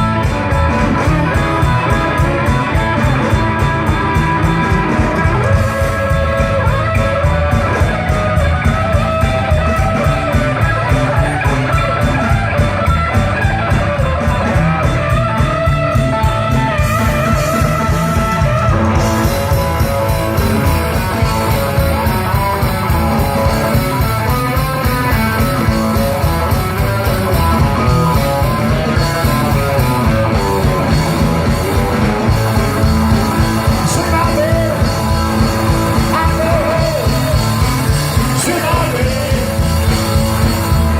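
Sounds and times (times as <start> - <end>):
bass guitar: 0.0 - 40.9
drums with steady beat: 0.0 - 40.9
lead guitar: 0.0 - 40.9.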